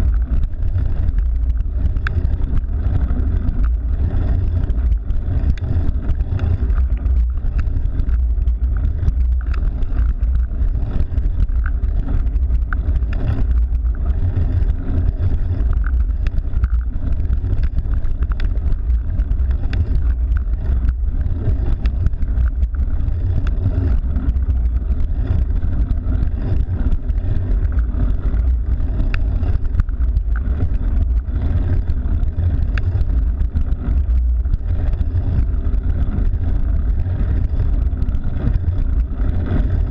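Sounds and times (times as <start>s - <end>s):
faint ticks: 0.0s - 39.9s
wind buffeting microphone: 0.0s - 39.9s.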